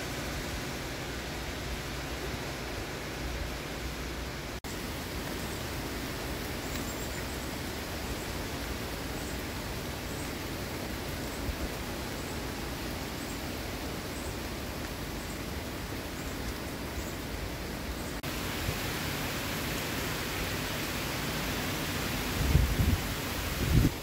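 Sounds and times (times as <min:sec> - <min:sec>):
heavy rain and wind: 0:00.0 - 0:24.0.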